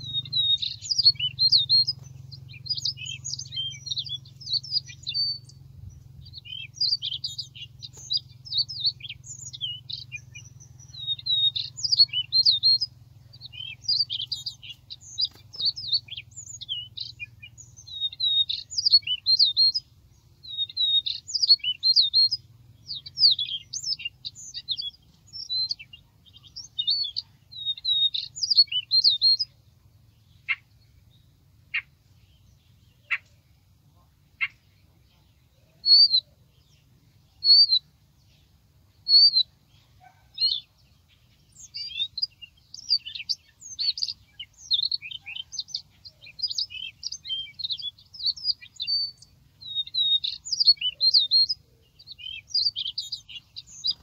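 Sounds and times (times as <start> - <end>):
bird song from speaker: 0.0 - 54.0
faint low hum: 0.0 - 54.0.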